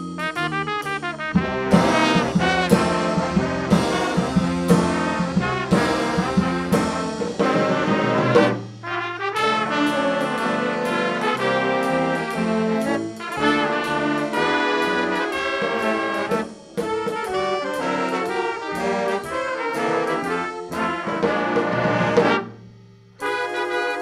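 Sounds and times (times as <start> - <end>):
band accented chords: 0.0 - 24.0
brass band playing: 0.0 - 24.0.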